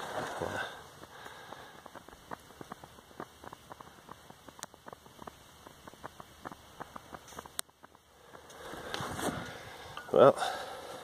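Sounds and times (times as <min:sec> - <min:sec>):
crackling and ticking sand mould: 0:00.0 - 0:11.0.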